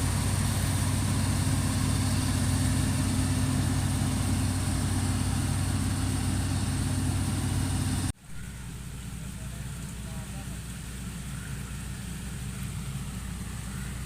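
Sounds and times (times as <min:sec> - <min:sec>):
harvester engine droning: 0:00.0 - 0:14.0
quieter engine running: 0:00.0 - 0:14.0.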